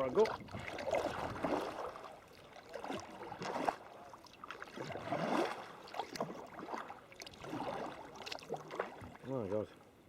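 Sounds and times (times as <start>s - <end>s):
kayak paddle splashing: 0.0s - 9.4s.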